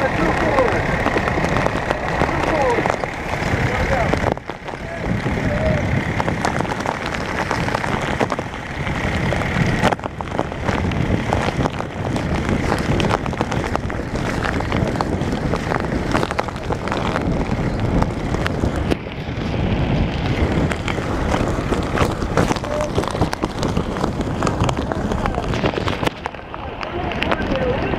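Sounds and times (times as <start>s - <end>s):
crackles and pops: 0.0s - 27.9s
wind buffeting microphone: 0.0s - 27.9s.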